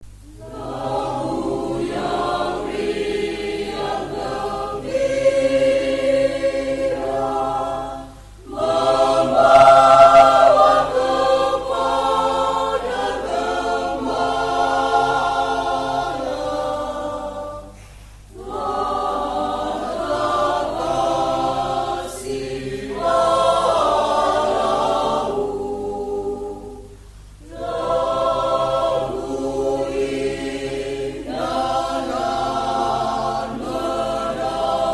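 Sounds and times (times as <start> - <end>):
church choir singing: 0.3 - 34.9.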